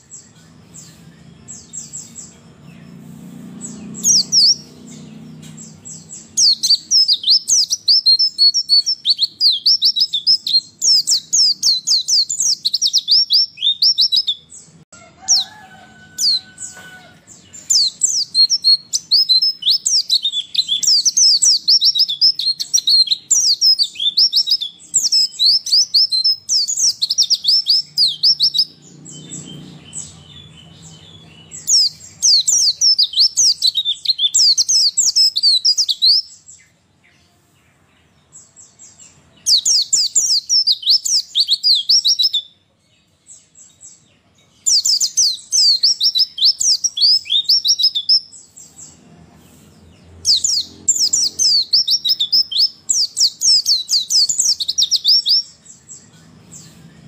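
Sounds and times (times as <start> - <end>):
bird twittering song: 0.0 - 57.0.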